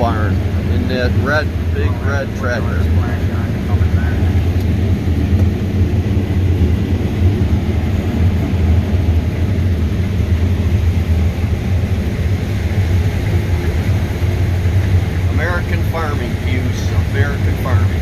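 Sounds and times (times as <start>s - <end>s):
tractor engine droning: 0.0s - 18.0s.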